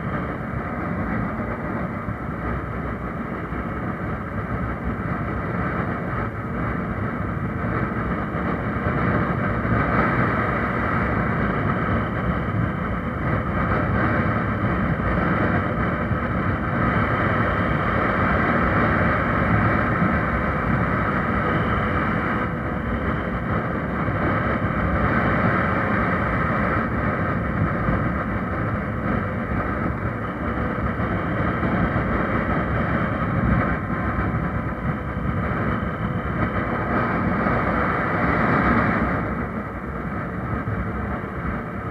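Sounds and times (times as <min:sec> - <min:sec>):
motorcycle running at speed: 0:00.0 - 0:41.9
wind and road noise: 0:00.0 - 0:41.9.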